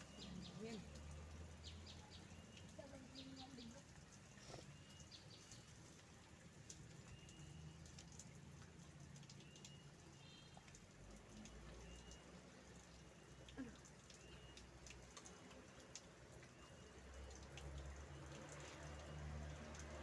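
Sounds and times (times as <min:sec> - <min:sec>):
faint birds chirping: 0:00.0 - 0:19.8.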